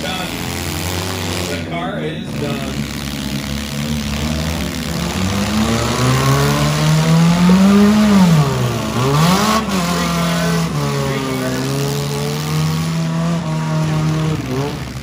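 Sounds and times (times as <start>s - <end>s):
car engine revving hard: 0.0s - 15.0s
din of running cars: 0.0s - 15.0s.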